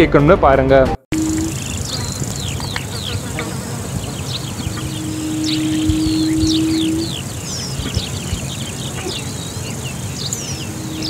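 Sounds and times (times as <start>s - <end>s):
bird giving low hooting note: 1.1s - 11.0s
high falling bird chirps: 1.1s - 11.0s.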